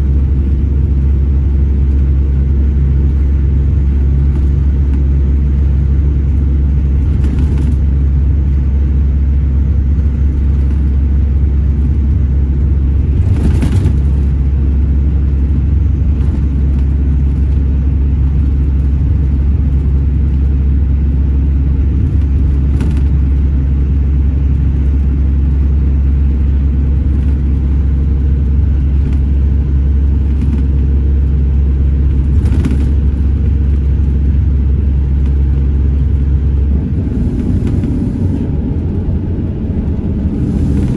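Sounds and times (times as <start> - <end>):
coach engine and road drone: 0.0 - 40.9.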